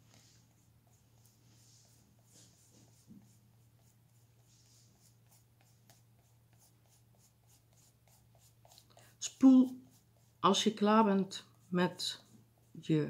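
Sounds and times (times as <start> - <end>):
sponge applicator rubbing on paper: 0.0 - 12.9
low steady hum: 0.0 - 13.0.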